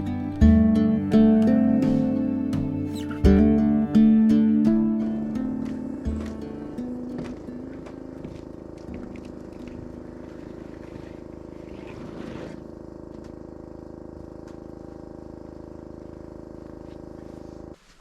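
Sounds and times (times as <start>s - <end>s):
motor running steadily: 0.0s - 17.8s.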